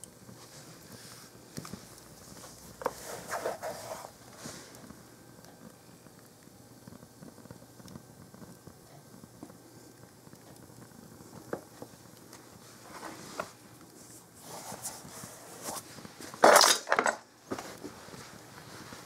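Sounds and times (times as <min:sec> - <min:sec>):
fire crackling and popping: 0:00.0 - 0:16.7, 0:17.3 - 0:19.0.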